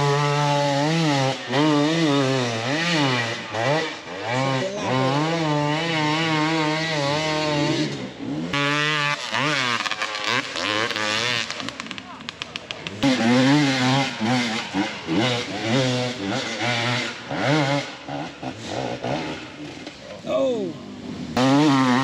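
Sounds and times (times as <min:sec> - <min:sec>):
dirt bike engine revving: 0:00.0 - 0:20.2, 0:20.8 - 0:22.0.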